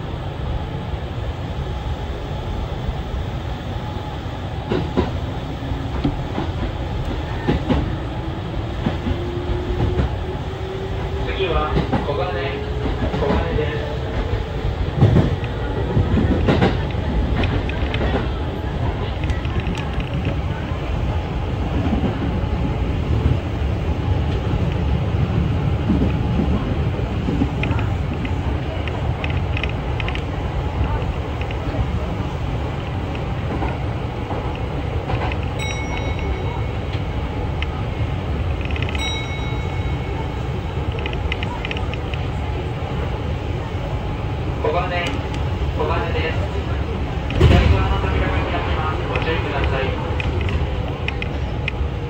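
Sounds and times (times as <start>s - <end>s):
faint train whine: 0.0s - 52.0s
train rumble: 0.0s - 52.0s.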